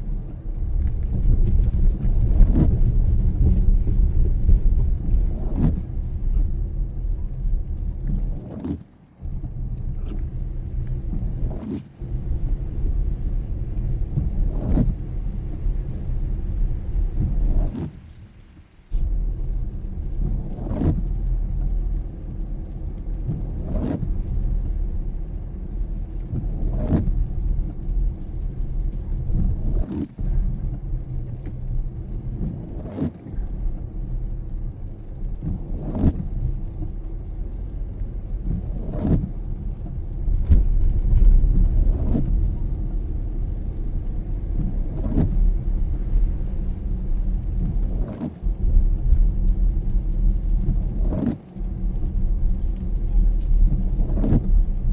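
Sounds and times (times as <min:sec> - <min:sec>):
car engine and road rumble: 0:00.0 - 0:54.9
windshield wipers sweeping: 0:00.0 - 0:54.9.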